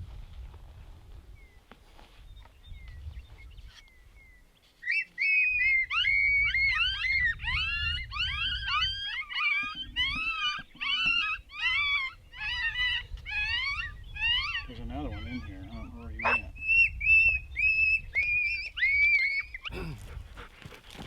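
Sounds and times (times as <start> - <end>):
coyote pups yipping and whining: 2.6 - 21.0.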